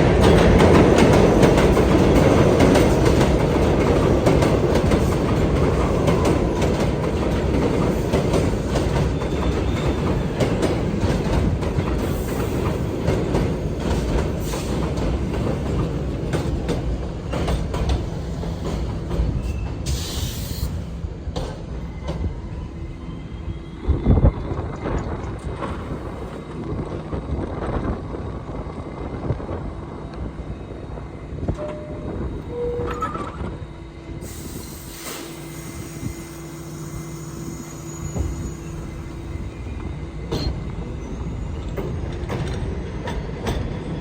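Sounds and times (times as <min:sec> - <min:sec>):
subway train wheels clacking: 0:00.0 - 0:44.0.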